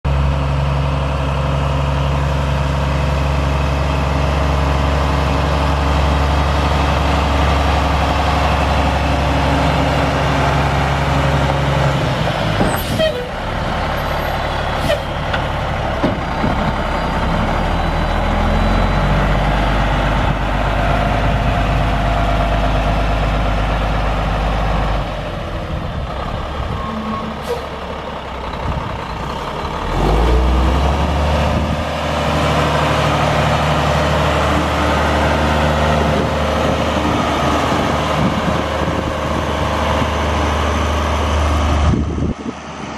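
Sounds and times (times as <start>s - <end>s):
diesel truck engine idling: 0.1s - 42.9s.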